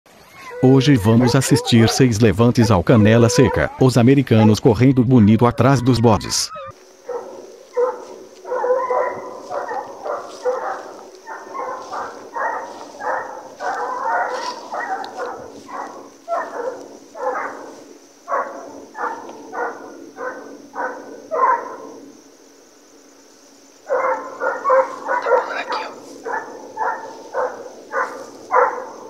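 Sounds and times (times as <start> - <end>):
pack of hounds baying: 0.4 - 22.2, 23.7 - 29.0.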